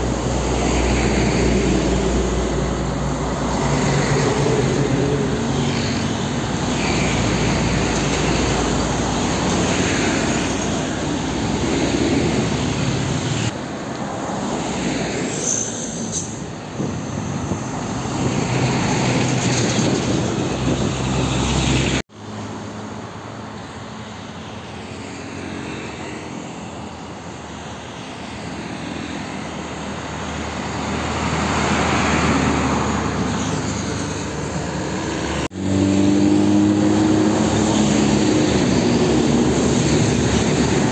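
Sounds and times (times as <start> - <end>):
heavy trucks passing: 0.0 - 40.9.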